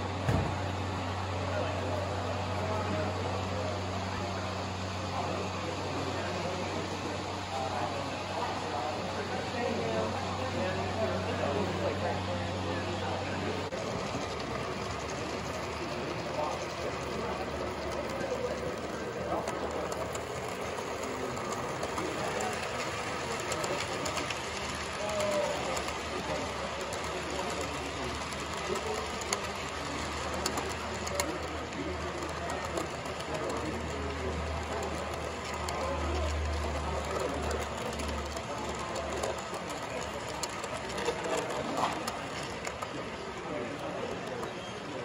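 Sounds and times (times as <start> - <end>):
model train wheels on rails: 0.0 - 45.0.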